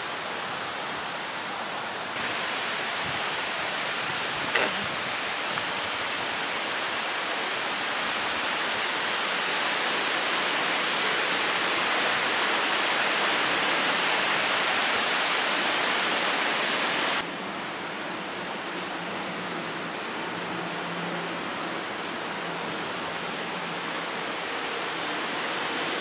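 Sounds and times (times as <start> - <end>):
wind rustling through trees: 0.0 - 26.0.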